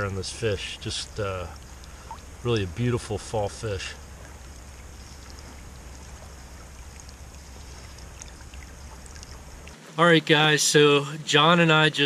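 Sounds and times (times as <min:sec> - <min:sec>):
river water flowing: 0:00.0 - 0:10.1.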